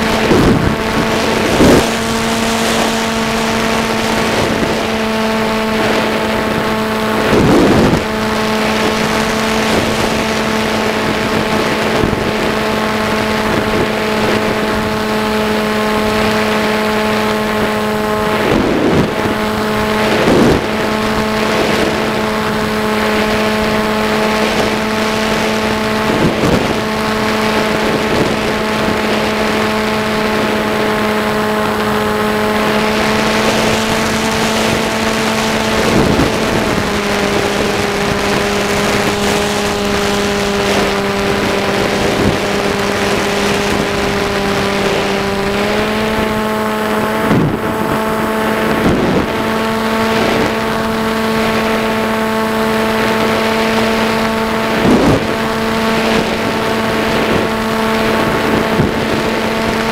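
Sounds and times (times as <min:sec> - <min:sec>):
model aircraft motor humming: 0:00.0 - 0:59.9
wind noise on microphone: 0:00.0 - 0:59.9.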